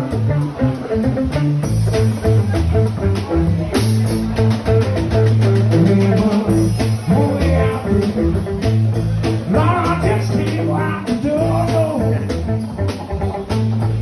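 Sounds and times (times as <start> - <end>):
bass line: 0.0 - 14.0
drums: 0.0 - 14.0
electric lead guitar bending: 0.0 - 14.0.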